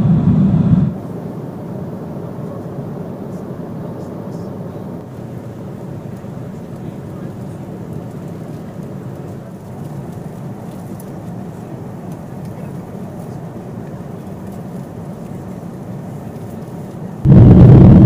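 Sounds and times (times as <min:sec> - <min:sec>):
airliner cabin roar: 0:00.0 - 0:18.0.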